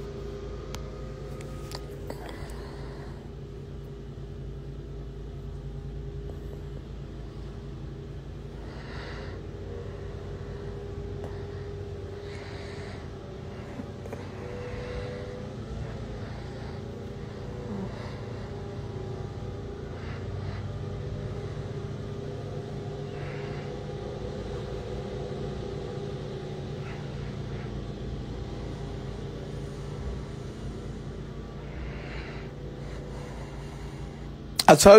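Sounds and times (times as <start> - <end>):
faint hum: 0.0 - 34.9
low background rumble: 0.0 - 34.9.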